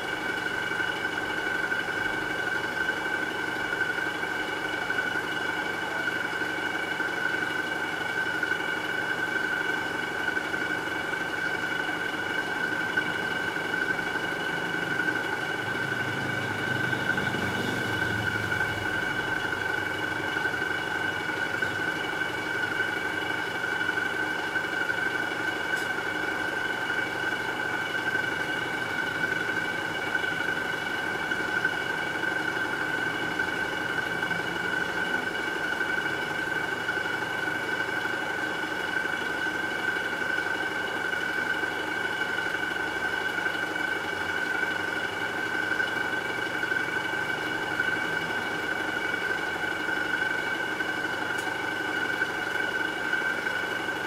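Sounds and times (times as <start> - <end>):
aquarium equipment humming: 0.0 - 54.0.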